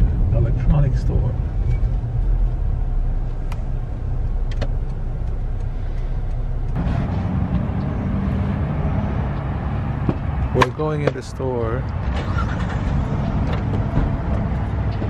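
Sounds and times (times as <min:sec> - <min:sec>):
engine hum: 0:00.0 - 0:15.0
low road rumble: 0:00.0 - 0:15.0.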